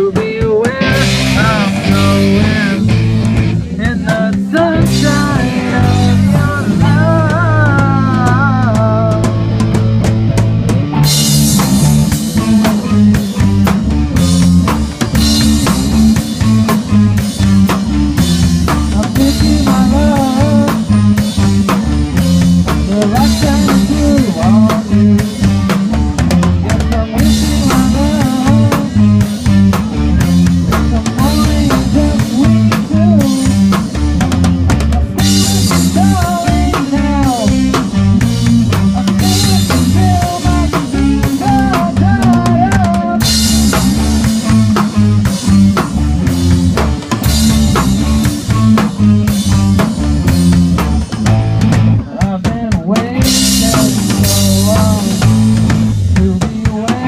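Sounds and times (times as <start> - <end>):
band music: 0.0 - 57.0
bass line: 0.0 - 57.0
drum kit: 0.0 - 57.0.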